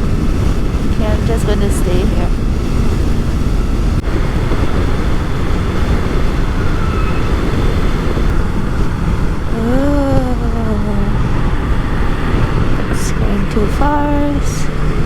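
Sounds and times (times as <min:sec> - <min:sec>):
motorcycle engine drone: 0:00.0 - 0:15.0
rising engine tone: 0:00.0 - 0:15.0
wind and road noise: 0:00.0 - 0:15.0.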